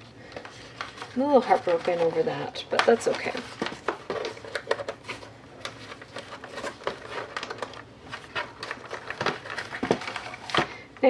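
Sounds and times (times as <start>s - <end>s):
cardboard rustling and scraping: 0.4s - 10.7s.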